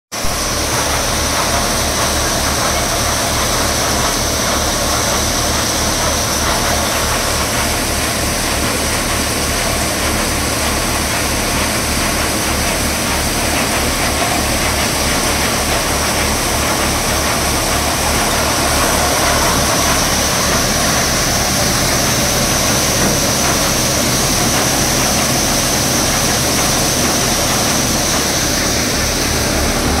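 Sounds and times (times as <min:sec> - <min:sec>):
thresher drum whirring: 0:00.2 - 0:30.0
tractor diesel engine: 0:00.2 - 0:30.0.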